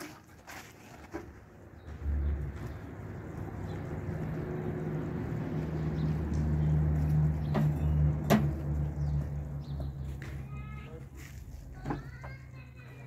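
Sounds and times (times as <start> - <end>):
engine humming: 1.6 - 13.0.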